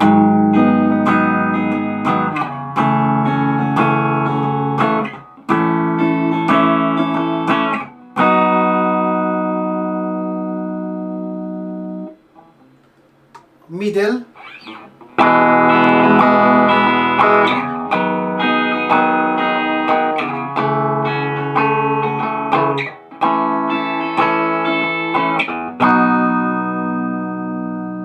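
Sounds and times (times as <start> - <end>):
clean electric guitar chords: 0.0 - 12.1, 14.3 - 28.0.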